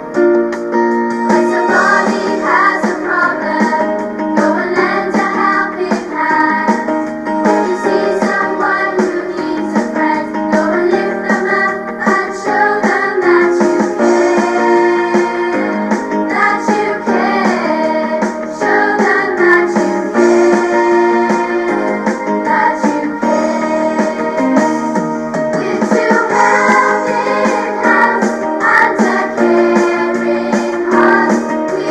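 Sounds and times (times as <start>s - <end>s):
instrumental accompaniment: 0.0s - 31.9s.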